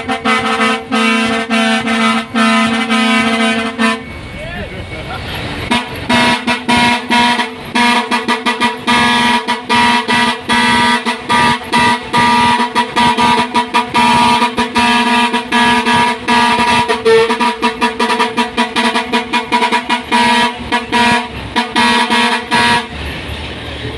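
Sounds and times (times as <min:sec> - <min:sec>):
truck air horns stuttering: 0:00.0 - 0:23.3.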